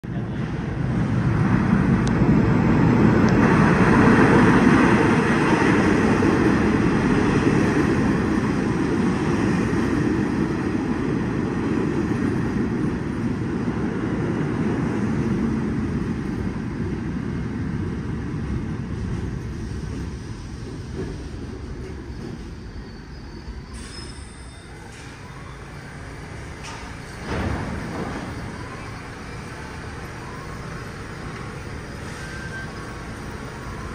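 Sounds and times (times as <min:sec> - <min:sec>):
subway train wheels rumbling on rail: 0:00.0 - 0:33.9.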